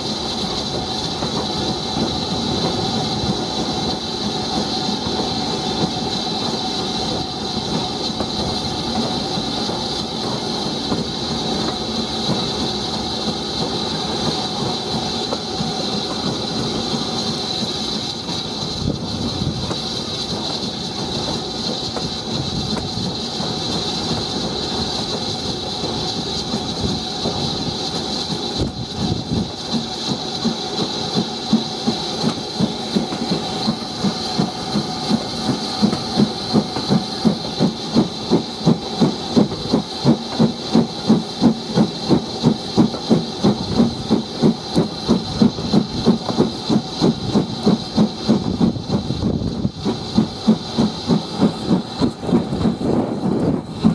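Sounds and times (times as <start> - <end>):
steam hiss: 0.0 - 53.9
steam locomotive exhaust beat: 0.0 - 53.9.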